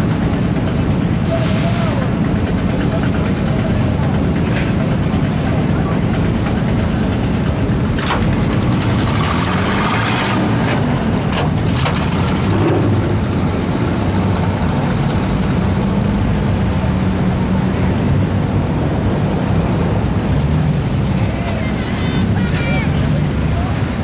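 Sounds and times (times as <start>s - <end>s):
vehicle engine running slowly: 0.0s - 21.7s.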